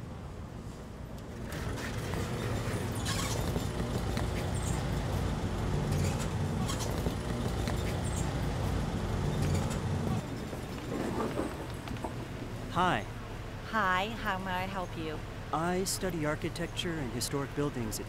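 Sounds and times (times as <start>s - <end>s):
rumble of passing vehicles: 0.0s - 18.0s.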